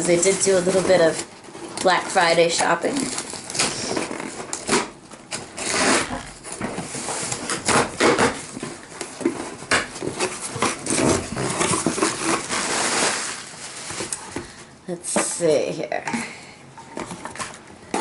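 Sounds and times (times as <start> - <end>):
plastic and paper rustling: 0.0 - 15.4.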